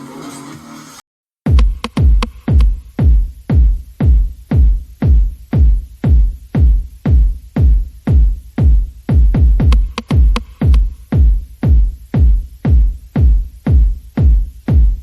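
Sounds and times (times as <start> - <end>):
electronic music: 0.0 - 15.0
deep kick drum beat: 1.4 - 15.0.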